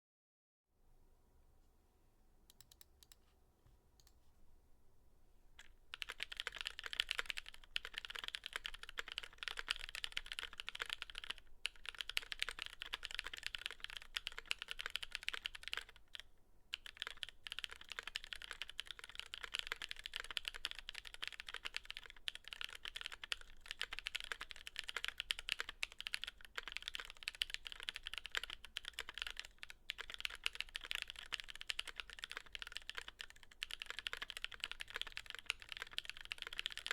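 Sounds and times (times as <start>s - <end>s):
mechanical keyboard typing: 5.6s - 36.9s.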